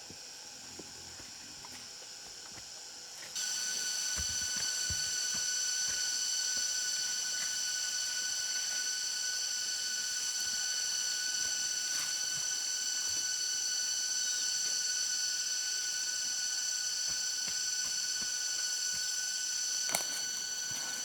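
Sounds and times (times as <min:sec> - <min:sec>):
cicada chorus drone: 0:00.0 - 0:21.0.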